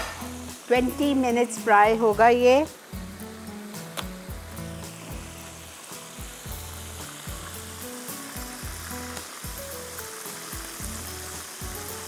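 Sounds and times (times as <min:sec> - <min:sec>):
background music with beat: 0:00.0 - 0:01.0, 0:02.1 - 0:12.0
chicken frying in oil: 0:00.0 - 0:12.0.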